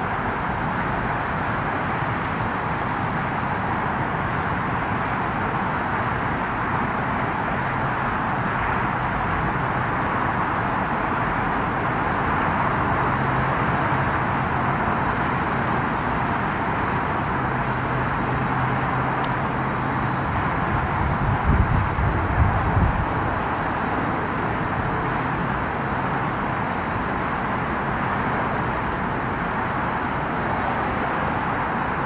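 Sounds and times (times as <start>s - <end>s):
low engine hum: 0.0s - 32.0s
tyres hissing on road: 0.0s - 32.0s.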